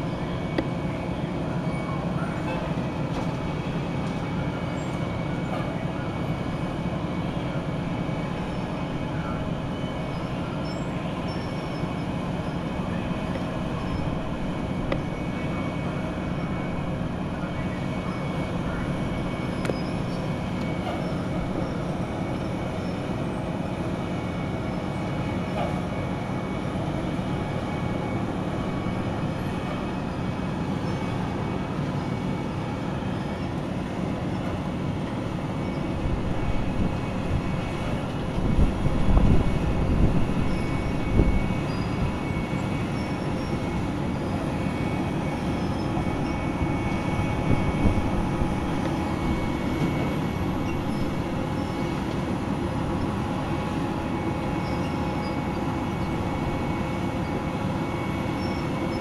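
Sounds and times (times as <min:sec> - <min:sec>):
road milling machine grinding: 0:00.0 - 0:59.0.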